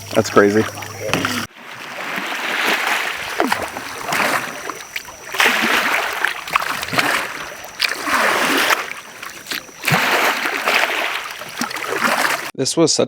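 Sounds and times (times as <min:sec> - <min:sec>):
kayak paddle splashing: 0:00.0 - 0:12.5
water dripping: 0:00.0 - 0:12.5.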